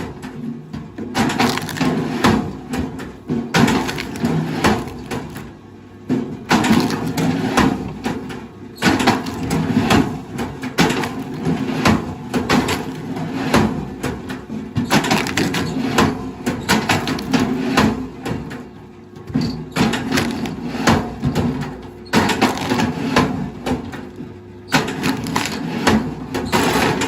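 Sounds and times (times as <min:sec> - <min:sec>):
wood cracking and splintering: 0:01.2 - 0:02.6, 0:03.5 - 0:05.5, 0:06.5 - 0:13.4, 0:14.2 - 0:18.5, 0:19.3 - 0:27.0.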